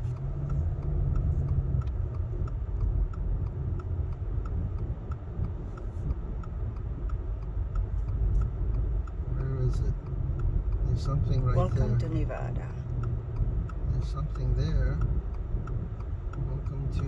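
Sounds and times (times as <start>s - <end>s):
light ticking: 0.0s - 17.0s
road and engine rumble: 0.0s - 17.0s.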